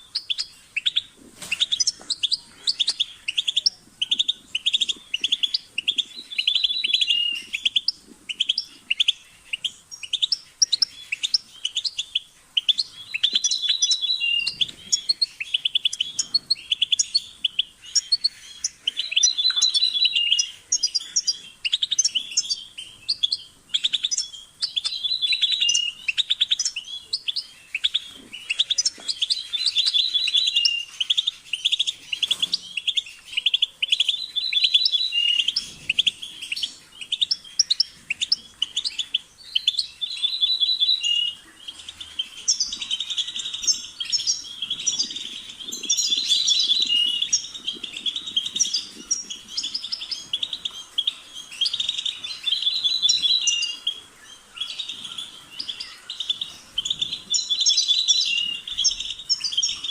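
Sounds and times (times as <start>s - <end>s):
goldfinch twittering song: 0.0s - 59.9s.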